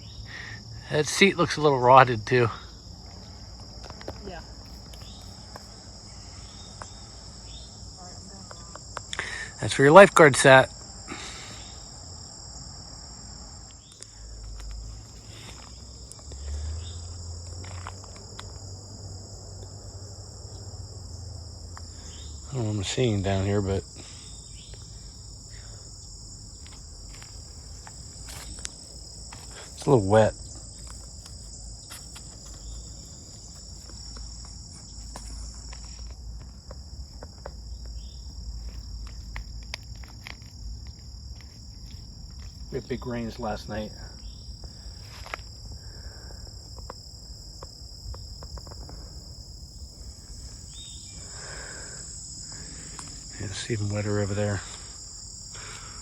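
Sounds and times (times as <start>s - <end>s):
crickets chirping: 0.0s - 56.0s
insects trilling: 0.0s - 56.0s.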